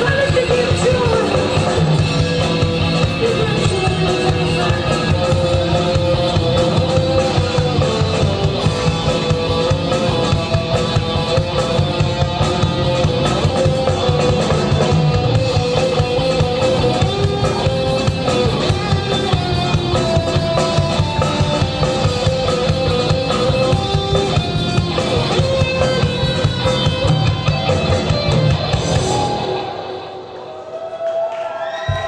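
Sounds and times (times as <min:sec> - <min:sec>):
drum kit beat: 0:00.0 - 0:29.9
guitars: 0:00.0 - 0:30.6.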